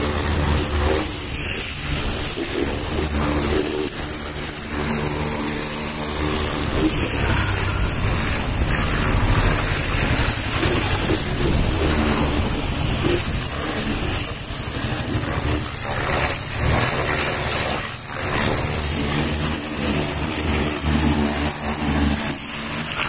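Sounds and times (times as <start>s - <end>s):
high-pressure water jet spraying: 0.0s - 23.0s
pressure washer motor hum: 0.0s - 23.0s.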